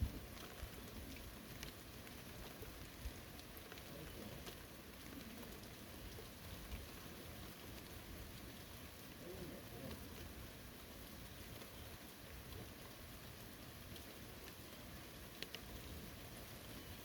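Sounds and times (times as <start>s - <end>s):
light rain in forest: 0.0s - 17.0s.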